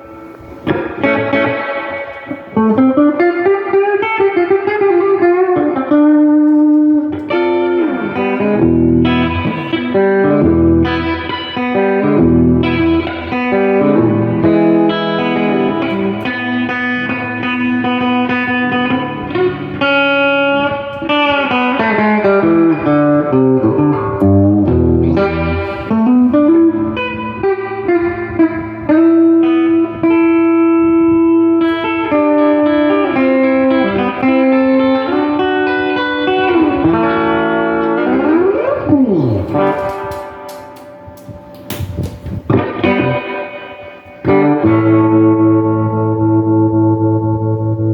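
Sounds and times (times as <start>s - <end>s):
electric guitar playing: 0.0s - 47.9s.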